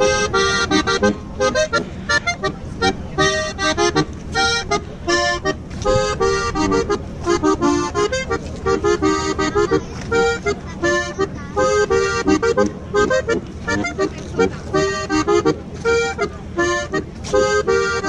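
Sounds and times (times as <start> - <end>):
accordion playing folk dance tune: 0.0 - 18.0.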